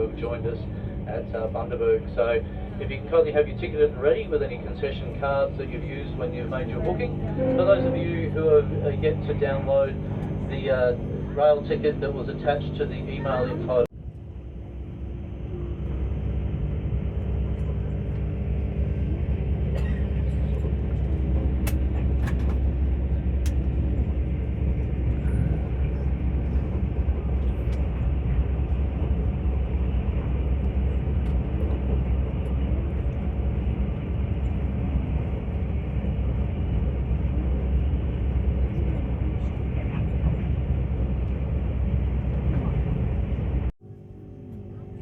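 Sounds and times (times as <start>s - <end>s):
train rumble: 0.0s - 43.8s.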